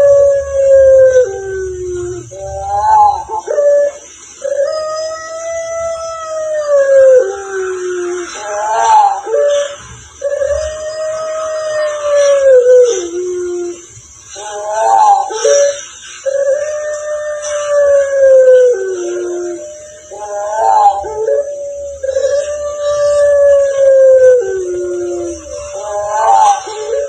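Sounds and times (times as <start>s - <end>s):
animal howling: 0.0s - 27.0s
animal yelps: 0.0s - 27.0s.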